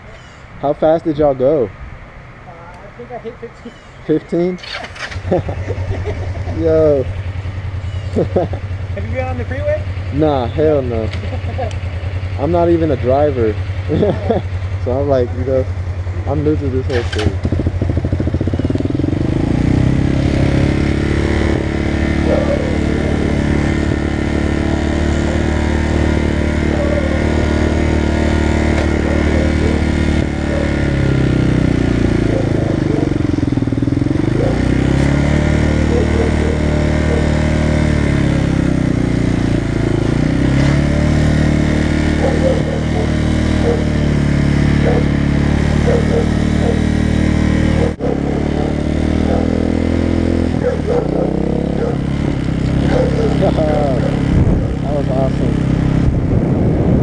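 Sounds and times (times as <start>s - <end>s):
motorcycle engine running: 0.6s - 57.0s.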